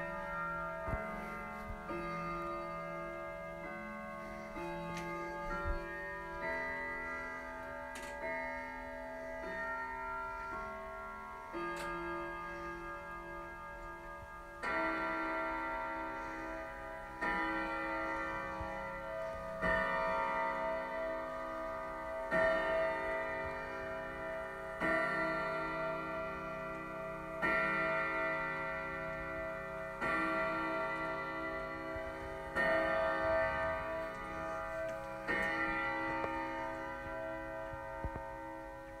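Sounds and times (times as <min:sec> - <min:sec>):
clock bell striking the hour: 0:00.0 - 0:39.0.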